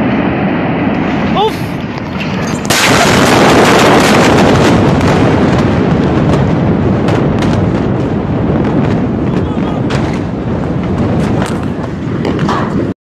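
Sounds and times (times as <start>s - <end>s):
rushing roar of blast wave: 0.0s - 12.9s
very loud explosion blast: 0.0s - 12.9s
sharp cracks: 0.9s - 12.9s.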